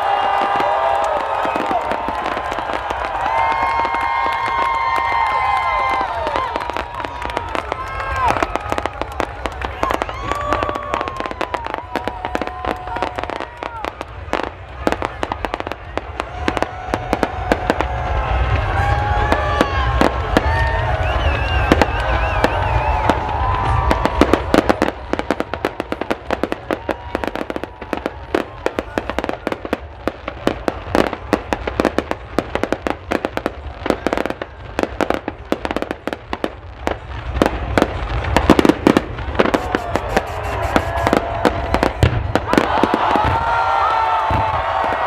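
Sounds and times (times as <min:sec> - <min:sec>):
crowd voices and shouts: 0:00.0 - 0:45.0
fireworks crackling and popping: 0:00.0 - 0:45.0.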